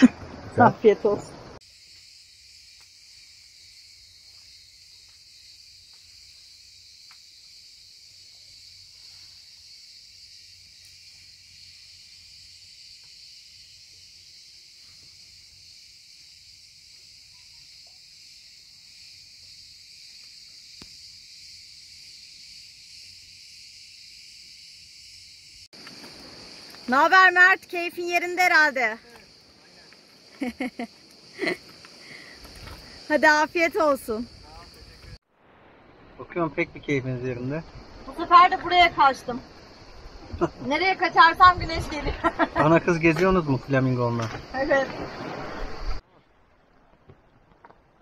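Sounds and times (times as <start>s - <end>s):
insect chorus drone: 0.0s - 46.0s.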